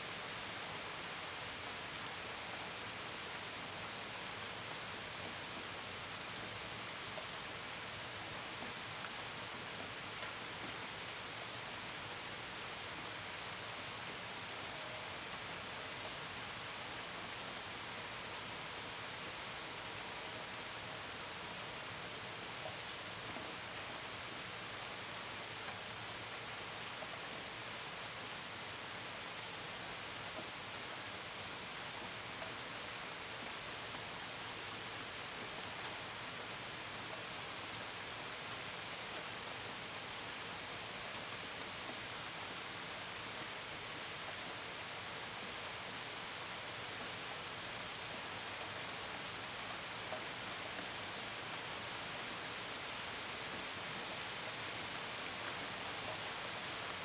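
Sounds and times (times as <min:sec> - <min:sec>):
rain falling and pattering: 0:00.0 - 0:57.0.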